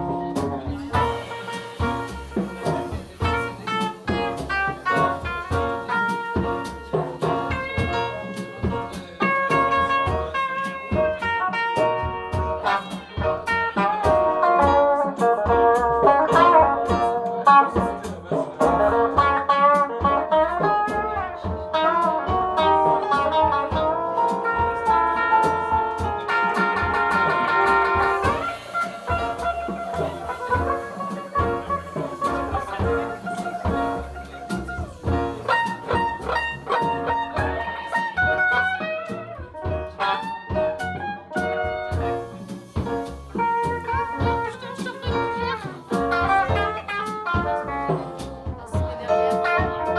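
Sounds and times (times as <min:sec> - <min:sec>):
blues band playing: 0:00.0 - 0:49.9
double bass: 0:00.0 - 0:49.9
drums: 0:00.0 - 0:49.9
electric guitar: 0:00.0 - 0:49.9.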